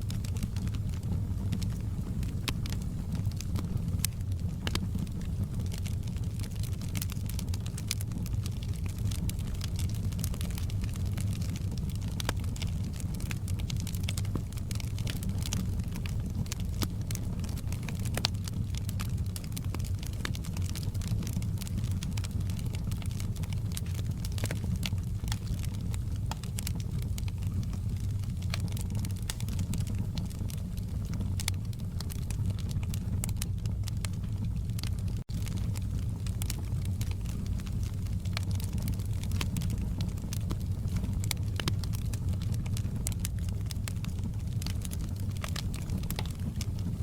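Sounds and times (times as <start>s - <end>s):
fire crackling and popping: 0.0s - 47.0s
fire rumbling: 0.0s - 47.0s.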